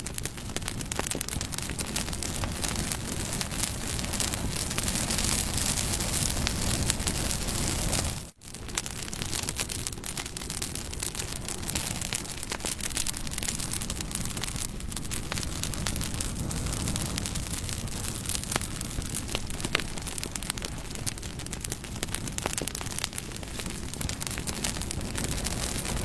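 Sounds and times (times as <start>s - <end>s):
campfire hissing: 0.0s - 26.0s
wood crackling and popping: 0.0s - 26.0s.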